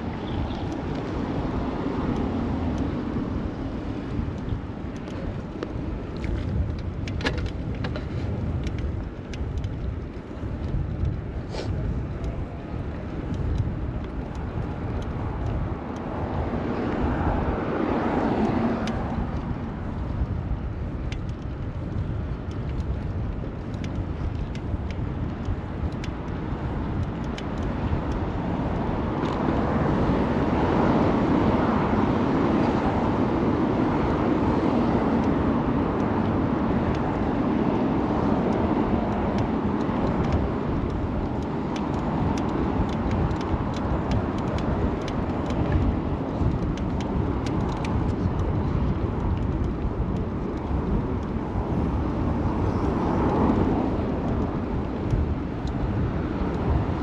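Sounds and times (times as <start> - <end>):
passing cars rumbling: 0.0 - 57.0
street noise: 0.0 - 57.0.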